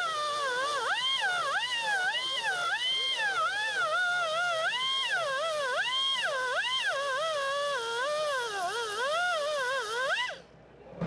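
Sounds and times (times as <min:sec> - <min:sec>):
grinder whining on metal: 0:00.0 - 0:10.4.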